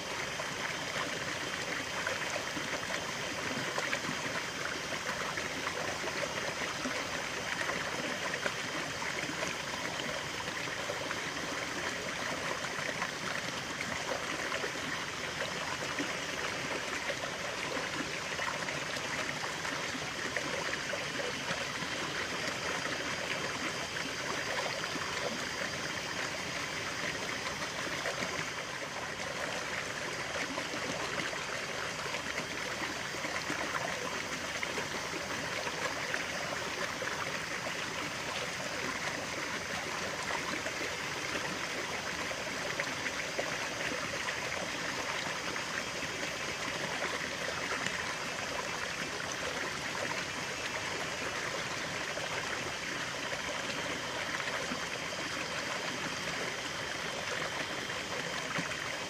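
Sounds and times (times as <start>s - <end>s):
stream water burbling: 0.0s - 59.0s.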